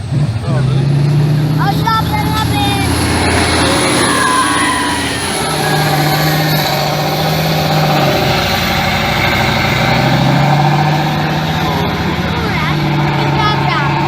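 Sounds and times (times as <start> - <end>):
heavy truck engine running: 0.0 - 14.0.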